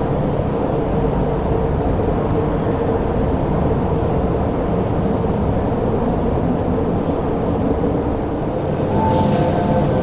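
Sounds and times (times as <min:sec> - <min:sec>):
train wheels and motors rumbling: 0:00.0 - 0:10.0.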